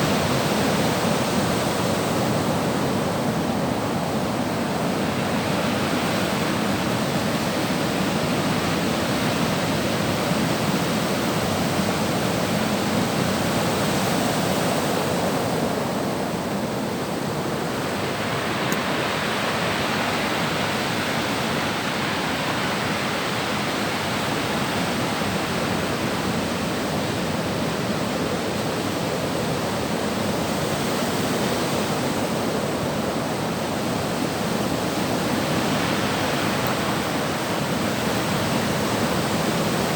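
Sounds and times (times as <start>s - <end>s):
sea surf washing onto shore: 0.0s - 39.9s.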